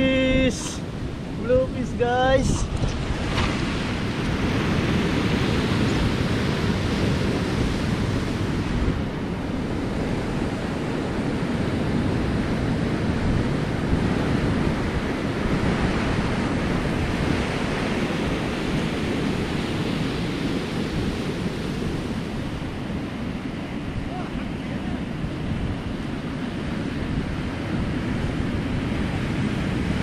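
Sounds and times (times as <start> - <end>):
surf breaking on rocky shore: 0.0 - 30.0
wind on microphone: 0.0 - 30.0.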